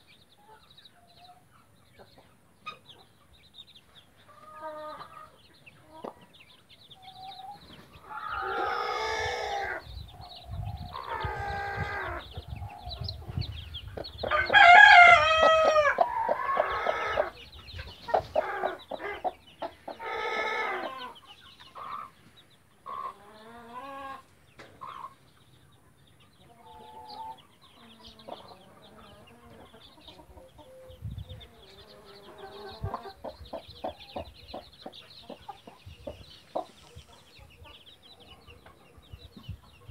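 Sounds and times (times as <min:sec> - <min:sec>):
chicks peeping: 0:00.0 - 0:39.9
drawn-out chicken calls: 0:00.4 - 0:39.9
hen clucking: 0:04.2 - 0:25.4, 0:26.3 - 0:39.9.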